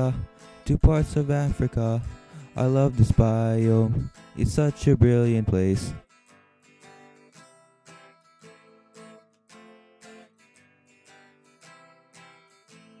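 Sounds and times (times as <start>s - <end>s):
acoustic guitar strummed quietly: 0.0s - 13.0s.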